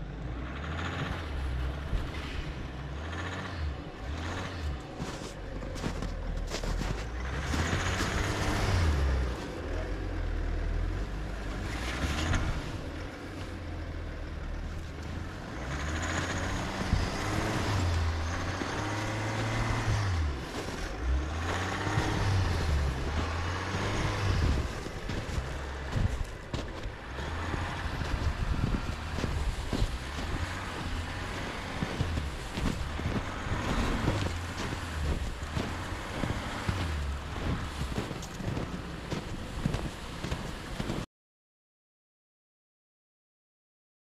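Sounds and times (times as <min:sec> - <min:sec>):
pickup engine revving under load: 0:00.0 - 0:41.0.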